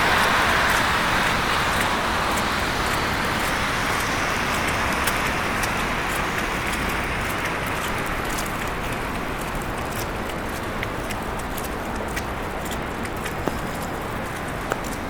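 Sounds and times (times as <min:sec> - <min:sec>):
car tyres hissing on slush: 0:00.0 - 0:15.0.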